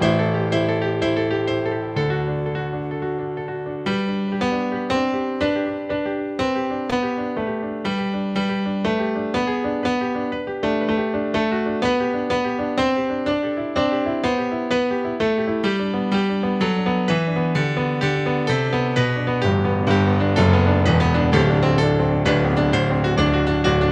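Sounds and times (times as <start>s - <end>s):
slow piano melody: 0.0s - 23.9s.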